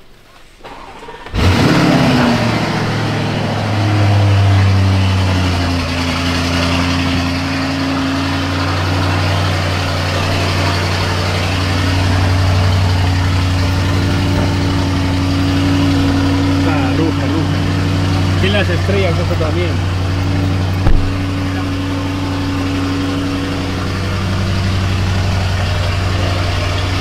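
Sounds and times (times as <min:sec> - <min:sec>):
car engine starting and idling: 0:00.0 - 0:27.0.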